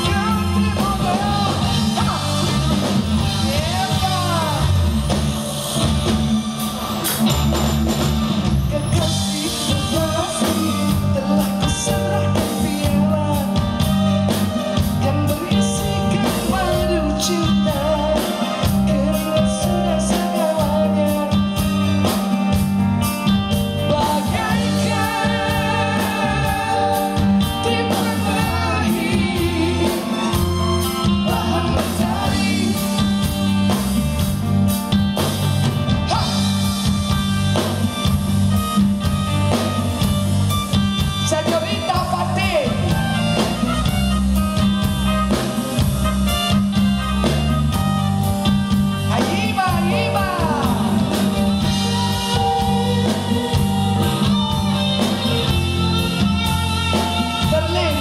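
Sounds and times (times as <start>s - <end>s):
drum kit beat: 0.0s - 58.0s
electric guitar: 0.0s - 58.0s
keyboard: 0.0s - 58.0s.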